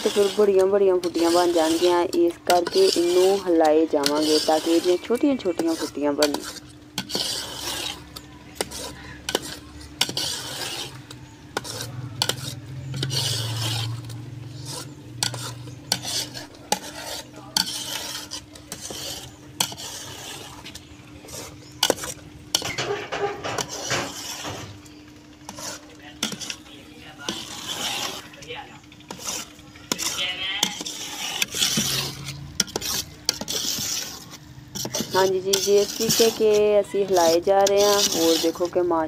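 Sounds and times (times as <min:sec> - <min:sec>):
hot milk sizzling: 0:00.0 - 0:39.0
metal spoon scraping pot: 0:00.0 - 0:39.0.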